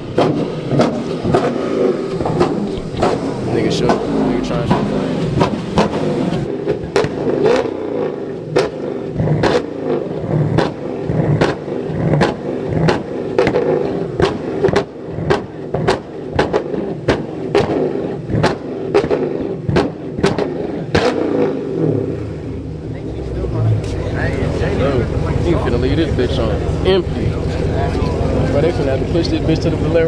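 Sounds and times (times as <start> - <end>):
car engine at high revs: 0.0 - 30.0
exhaust pops and bangs: 0.0 - 30.0.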